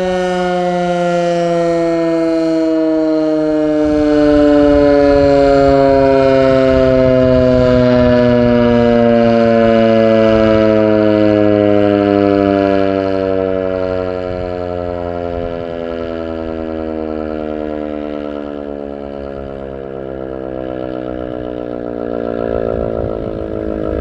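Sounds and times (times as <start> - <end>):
outdoor warning siren: 0.0 - 24.0.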